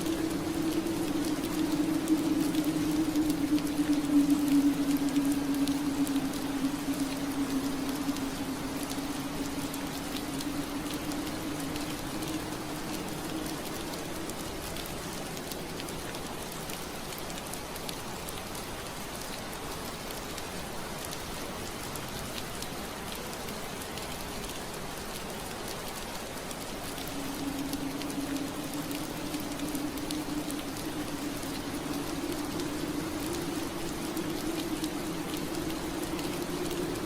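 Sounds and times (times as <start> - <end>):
rain on window glass: 0.0 - 37.0.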